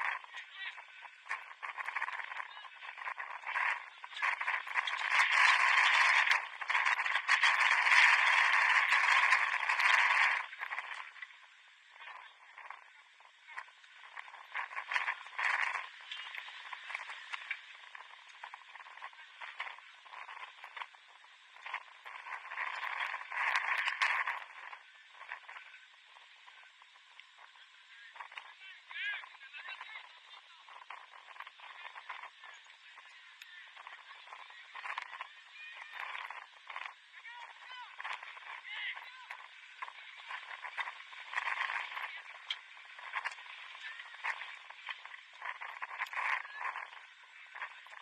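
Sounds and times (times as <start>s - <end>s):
noise from football field: 0.0s - 48.0s.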